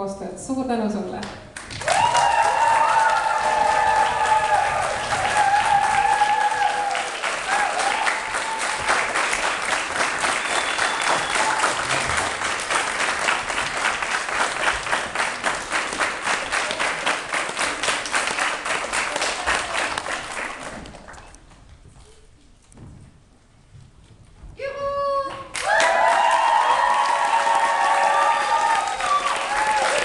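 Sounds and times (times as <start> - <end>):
crowd applause: 1.6 - 21.3, 25.5 - 30.0.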